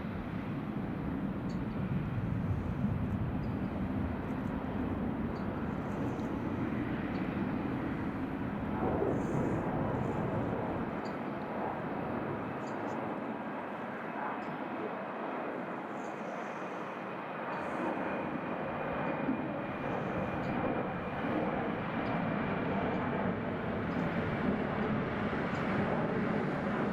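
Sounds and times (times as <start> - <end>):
jet engines running: 0.0 - 26.9.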